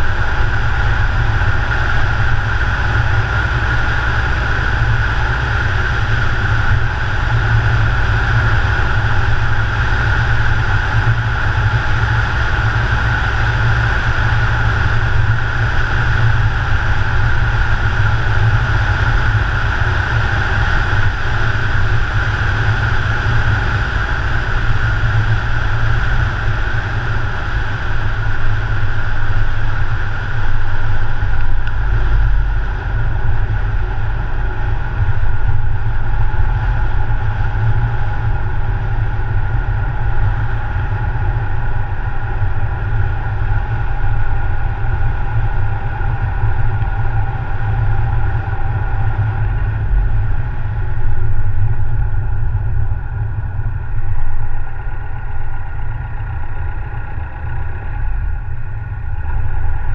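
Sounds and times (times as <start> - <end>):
car driving steadily: 0.0 - 59.9.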